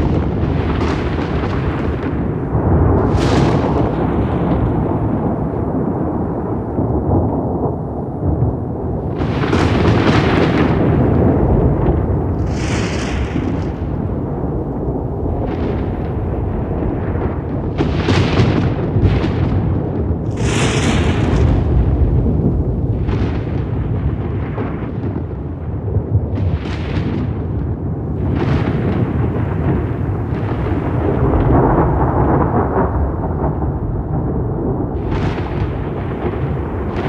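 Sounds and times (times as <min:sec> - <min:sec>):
rolling thunder: 0:00.0 - 0:37.0
thunder cracks: 0:00.0 - 0:37.0.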